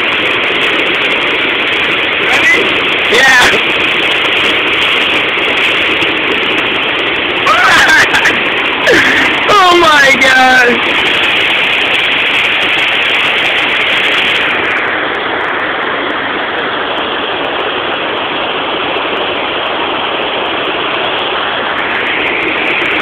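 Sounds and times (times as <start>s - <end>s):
waterfall roaring over rocks: 0.0s - 23.0s.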